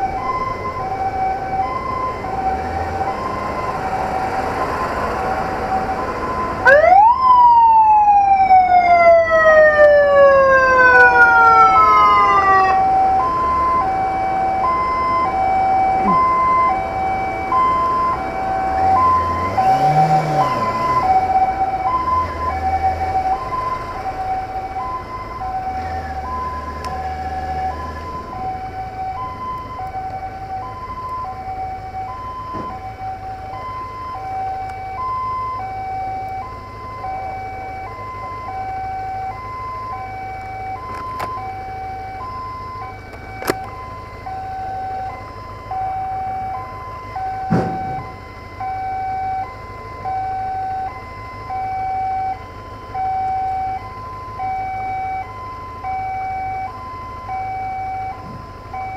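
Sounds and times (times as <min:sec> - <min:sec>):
low vehicle rumble: 0:00.0 - 0:58.9
two-tone hi-lo siren: 0:00.0 - 0:58.9
wailing emergency siren: 0:00.0 - 0:58.9.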